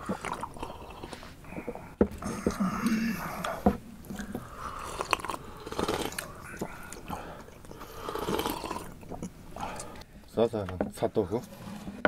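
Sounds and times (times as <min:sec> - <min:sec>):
wet mouth clicks: 0:00.0 - 0:10.0
soft sips from a bowl: 0:00.0 - 0:10.1.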